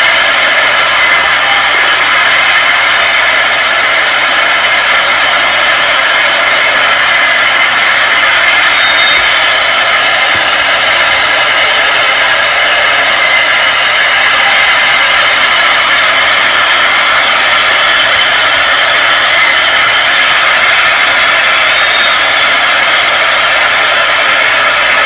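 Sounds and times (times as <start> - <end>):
loud rushing noise: 0.0 - 25.0.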